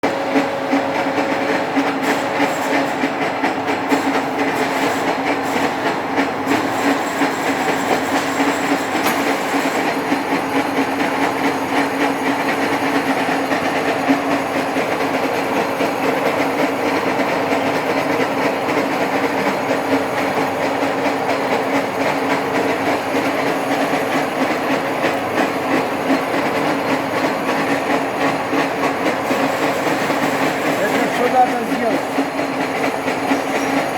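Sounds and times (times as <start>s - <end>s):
milling machine rattling: 0.1s - 33.9s.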